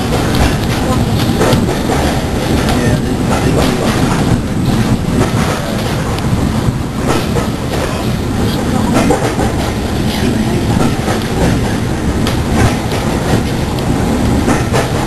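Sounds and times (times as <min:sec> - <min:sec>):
train wheels rumbling on track: 0:00.0 - 0:15.0
wheels clicking over rail joints: 0:00.0 - 0:15.0.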